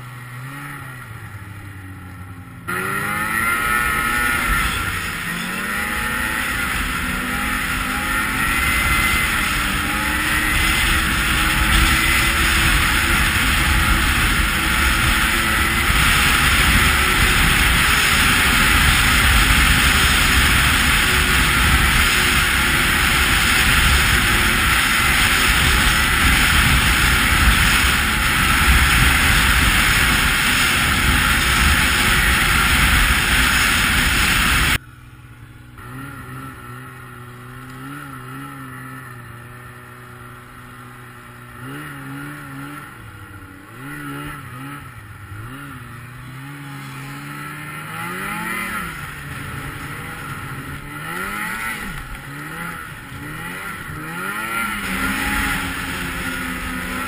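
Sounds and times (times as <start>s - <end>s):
snowmobile engine accelerating: 0.0s - 34.8s, 35.6s - 57.0s.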